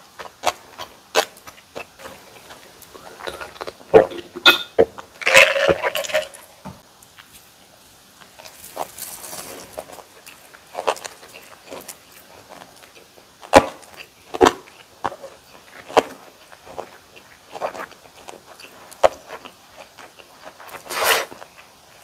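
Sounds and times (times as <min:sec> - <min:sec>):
close-miked biting and chewing: 0:00.0 - 0:04.1, 0:08.2 - 0:22.0.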